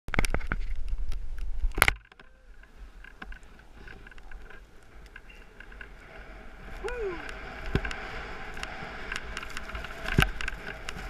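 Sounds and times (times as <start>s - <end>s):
wind rumble on microphone: 0.1s - 11.0s.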